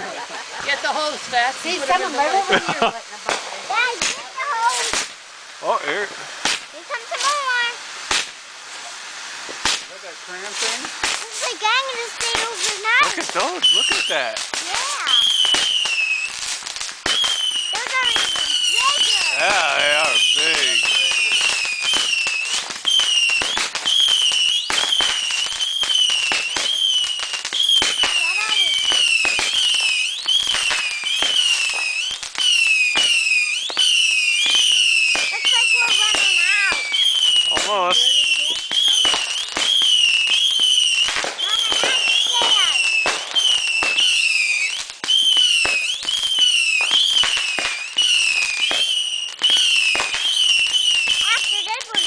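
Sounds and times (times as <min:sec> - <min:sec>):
fireworks crackling pops: 0:00.0 - 0:52.0
firework whistle: 0:00.1 - 0:52.0.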